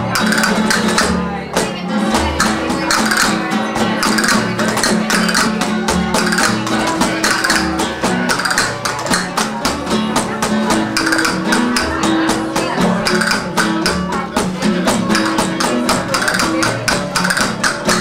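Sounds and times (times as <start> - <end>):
acoustic guitars strumming fast: 0.0 - 18.0
hand-struck cajon beats: 0.0 - 18.0.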